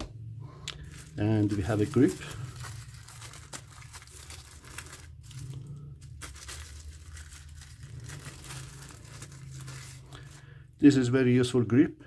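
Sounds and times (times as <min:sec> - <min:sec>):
packaging crinkling and rustling: 0:00.7 - 0:10.6.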